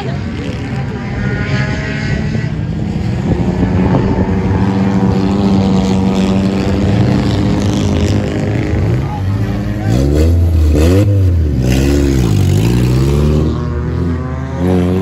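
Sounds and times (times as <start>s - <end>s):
race car engine running steadily: 0.0s - 15.0s.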